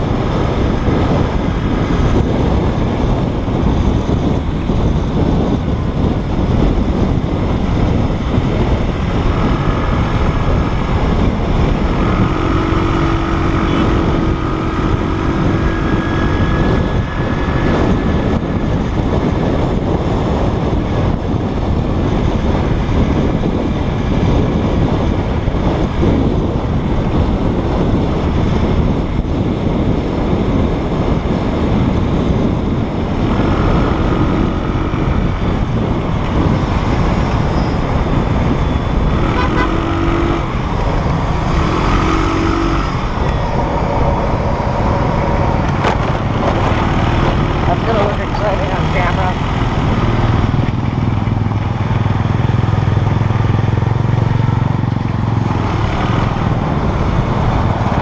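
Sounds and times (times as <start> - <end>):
motorbike and road noise: 0.0 - 58.0
wind buffeting microphone: 0.0 - 58.0.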